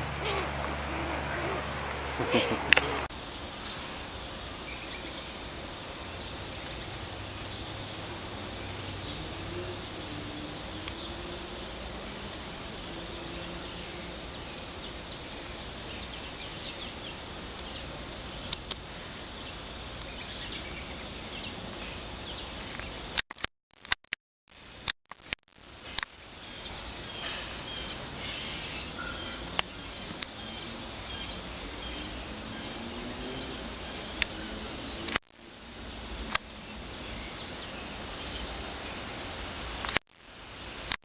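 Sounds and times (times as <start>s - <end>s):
outdoor background hiss: 0.0s - 23.2s, 25.6s - 41.0s.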